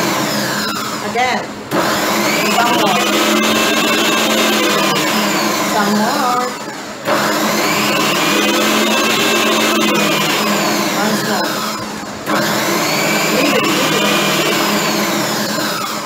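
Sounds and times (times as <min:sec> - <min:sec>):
food processor motor running: 0:00.0 - 0:16.0.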